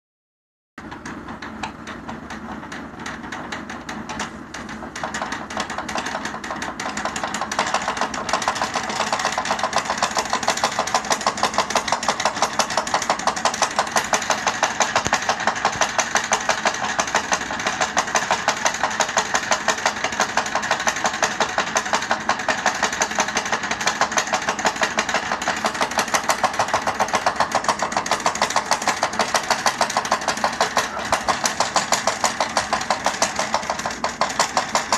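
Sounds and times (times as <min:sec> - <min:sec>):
chair mechanism chugging knock: 0:00.8 - 0:34.9.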